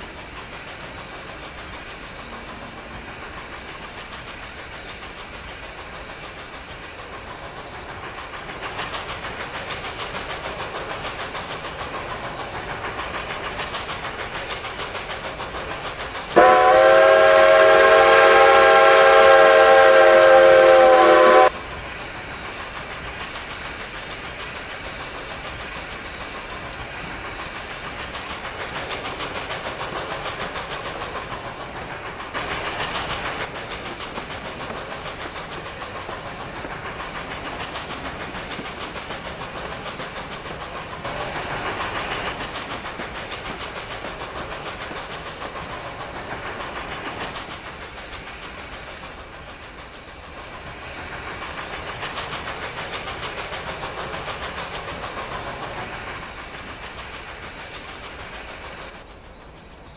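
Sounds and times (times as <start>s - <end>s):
steam locomotive hiss and rattle: 0.0s - 59.9s.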